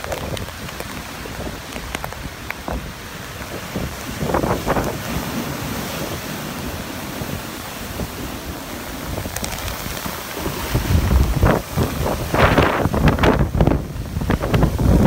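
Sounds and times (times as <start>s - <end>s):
surf washing up the beach: 0.0s - 15.0s
wind buffeting the microphone: 0.0s - 15.0s.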